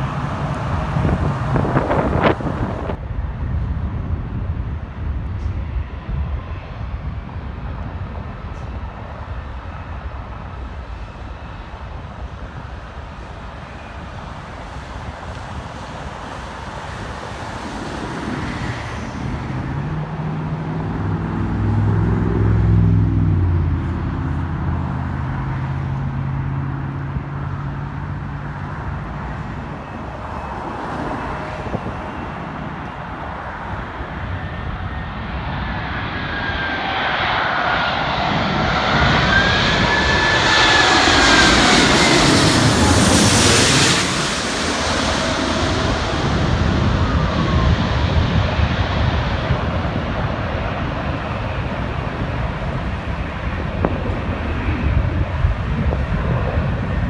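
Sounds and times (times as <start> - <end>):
jet airliner passing overhead: 0.0 - 57.0
jet engine whine: 0.0 - 57.0.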